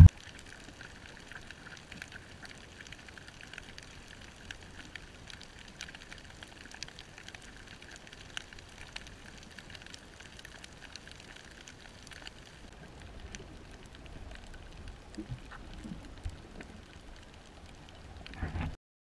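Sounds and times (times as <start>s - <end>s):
snapping shrimp crackling underwater: 0.0s - 18.8s.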